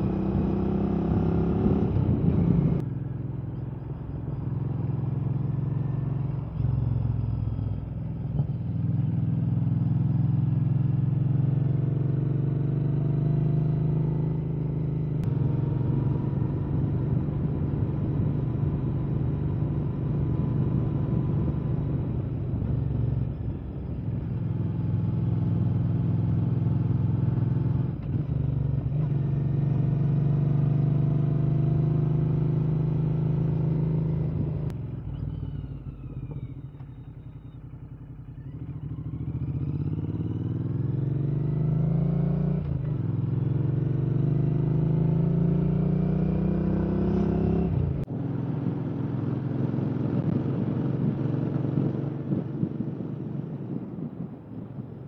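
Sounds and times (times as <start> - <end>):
motorcycle engine revving: 0.0 - 54.3.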